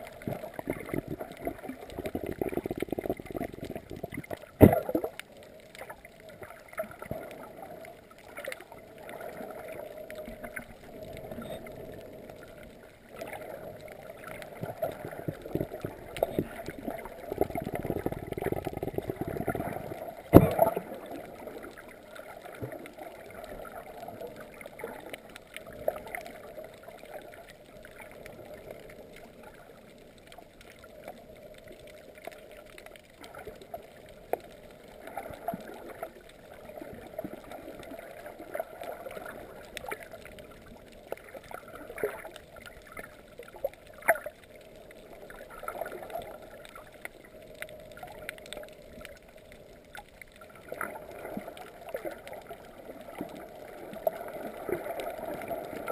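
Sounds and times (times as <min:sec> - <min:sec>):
underwater sloshing and gurgling: 0:00.0 - 0:55.9.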